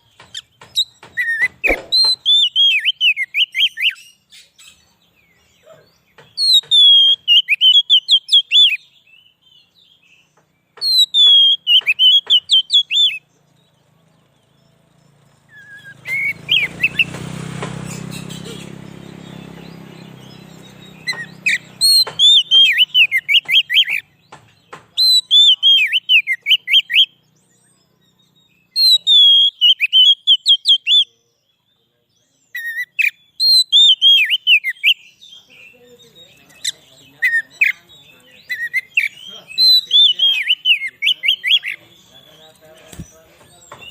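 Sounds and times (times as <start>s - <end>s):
bird singing whistled phrases: 0.4s - 4.8s, 5.6s - 13.3s, 15.5s - 17.1s, 18.2s - 24.1s, 25.0s - 31.6s, 32.5s - 41.8s.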